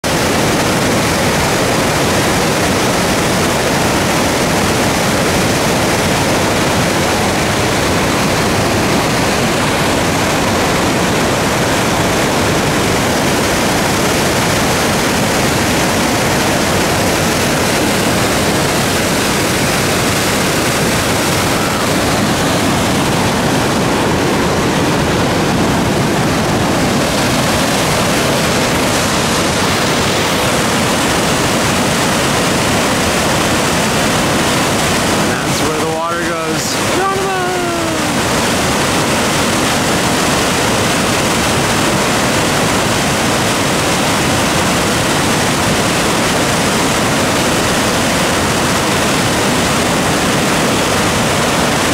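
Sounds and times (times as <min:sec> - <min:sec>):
white water rushing through rapids: 0:00.0 - 0:51.9.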